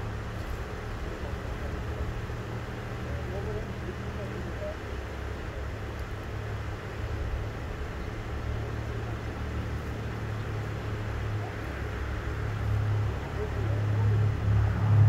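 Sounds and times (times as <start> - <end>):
outdoor background noise: 0.0 - 15.0
vehicle engine idling: 0.0 - 15.0.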